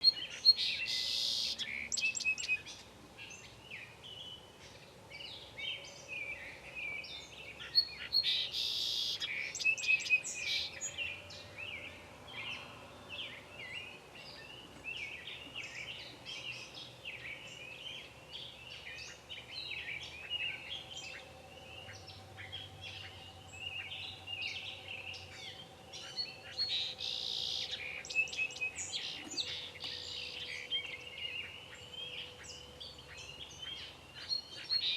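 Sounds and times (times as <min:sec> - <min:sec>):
buzzy bird song with quick notes: 0:00.0 - 0:34.9
songbirds singing and chirping: 0:00.0 - 0:34.9.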